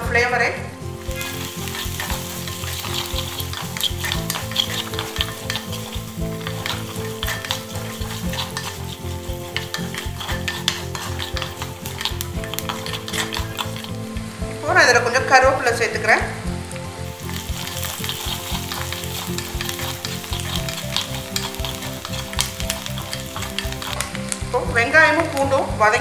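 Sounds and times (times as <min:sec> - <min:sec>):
onions sizzling in oil: 0:00.6 - 0:26.0
wooden spatula scraping a pot: 0:01.0 - 0:14.4, 0:17.1 - 0:24.6.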